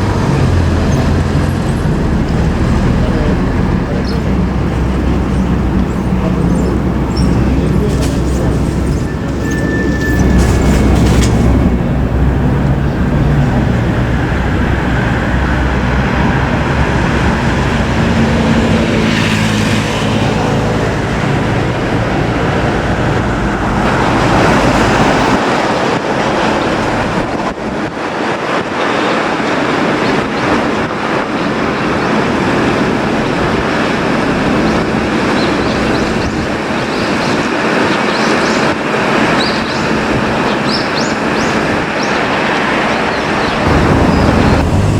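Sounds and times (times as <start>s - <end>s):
fire truck engine rumbling: 0.0s - 28.6s, 29.6s - 44.9s
road traffic noise: 0.0s - 44.9s.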